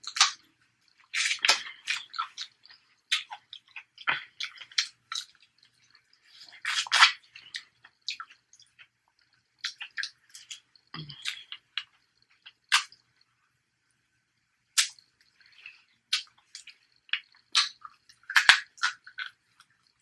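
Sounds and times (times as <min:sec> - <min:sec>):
wet chewing and lip smacks: 0:00.0 - 0:13.3, 0:14.7 - 0:20.0.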